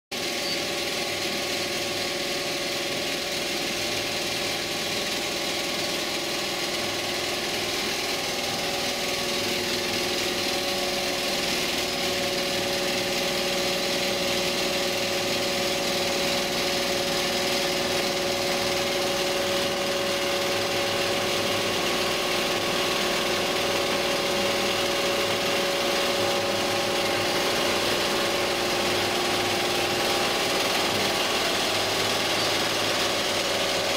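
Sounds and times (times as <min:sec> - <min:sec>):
quilting machine clattering: 0:00.2 - 0:33.9
steady machine tone: 0:00.2 - 0:33.9.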